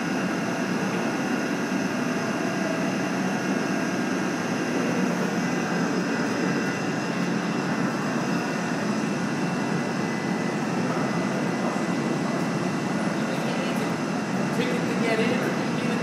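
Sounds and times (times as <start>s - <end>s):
faint high-pitched machinery whines: 0.0s - 16.0s
low mechanical rumble: 0.0s - 16.0s.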